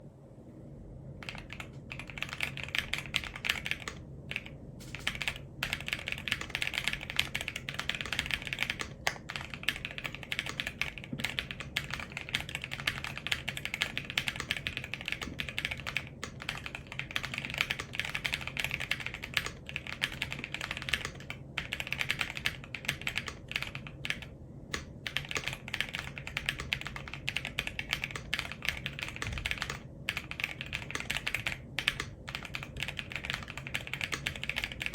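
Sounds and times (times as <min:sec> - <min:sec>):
fast mechanical keyboard typing: 0:01.2 - 0:34.9.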